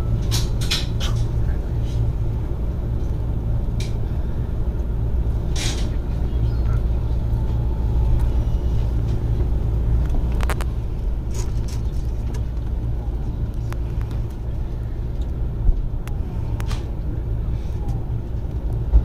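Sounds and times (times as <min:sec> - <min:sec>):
train rumbling from inside: 0:00.0 - 0:19.0.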